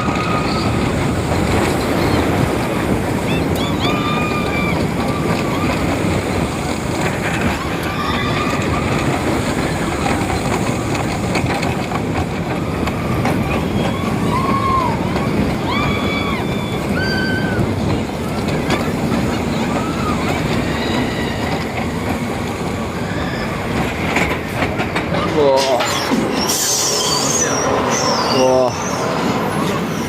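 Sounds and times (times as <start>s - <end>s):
roller coaster wind and track noise: 0.0s - 30.0s.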